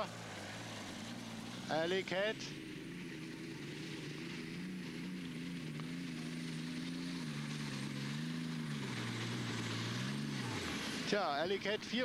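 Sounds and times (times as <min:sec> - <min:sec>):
tractor engine under full load: 0:00.0 - 0:12.0.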